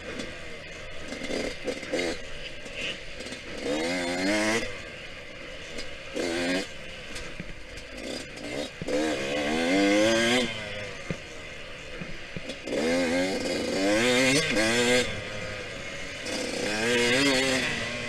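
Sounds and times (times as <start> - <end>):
two-stroke engine revving: 0.0 - 18.0.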